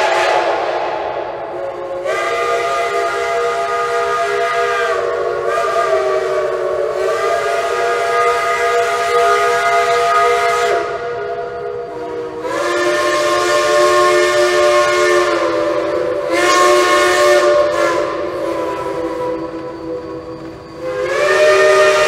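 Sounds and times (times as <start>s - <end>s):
steam hissing: 0.0s - 22.0s
steam locomotive whistle: 0.0s - 22.0s.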